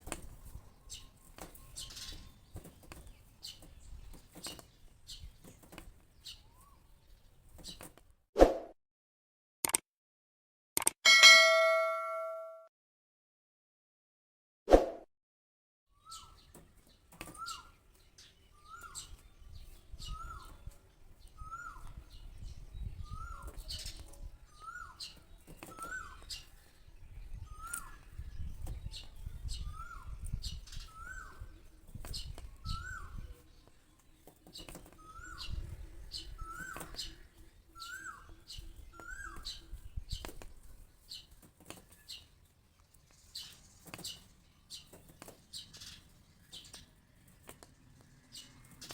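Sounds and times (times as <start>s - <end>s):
small bird chirping: 0.2s - 7.9s, 16.0s - 48.9s.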